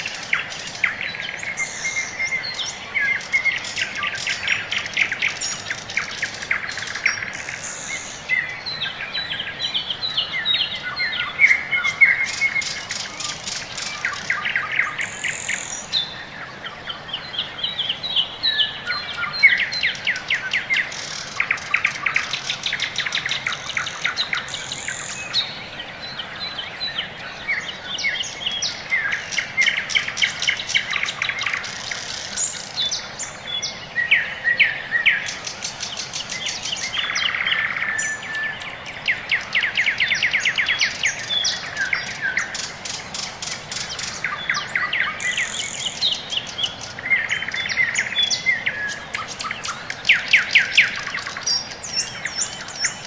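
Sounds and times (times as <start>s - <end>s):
songbirds trilling and chirping: 0.0s - 53.0s.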